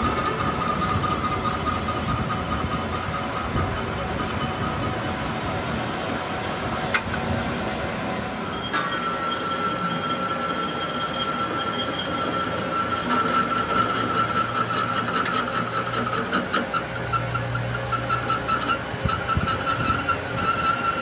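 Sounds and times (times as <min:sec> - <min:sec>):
machinery high whine: 0:00.0 - 0:21.0.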